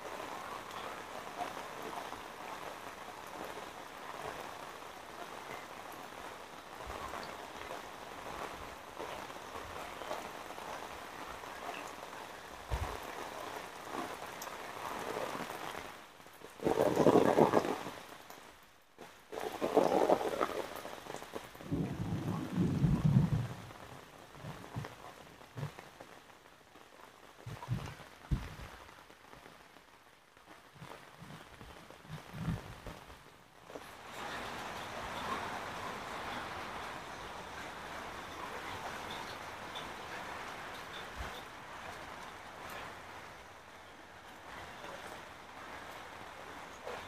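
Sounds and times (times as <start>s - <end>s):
heavy rain hissing: 0.0s - 47.0s.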